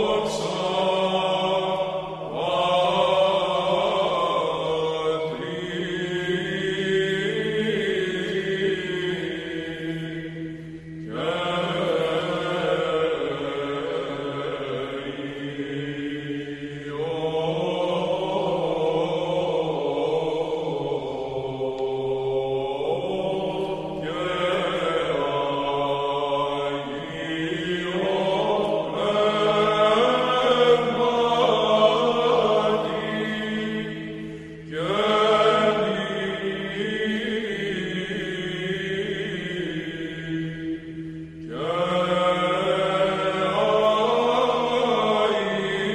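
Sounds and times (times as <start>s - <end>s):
slow meditative chanting: 0.0s - 45.9s.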